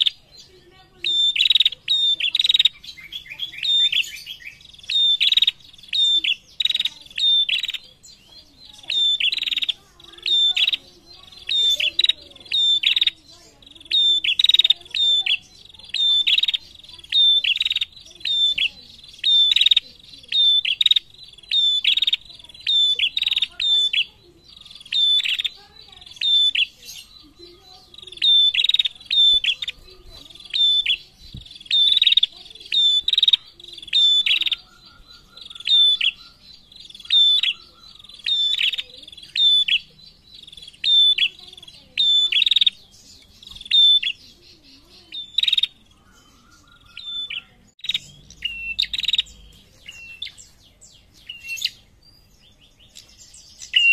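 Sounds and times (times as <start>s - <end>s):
songbird chirping: 0.0s - 53.9s.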